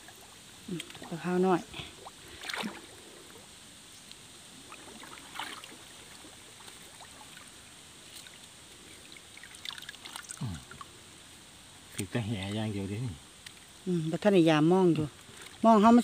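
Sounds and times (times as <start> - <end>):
water splashes and trickles: 0.0 - 13.8, 14.8 - 16.0
steady hiss: 0.0 - 16.0.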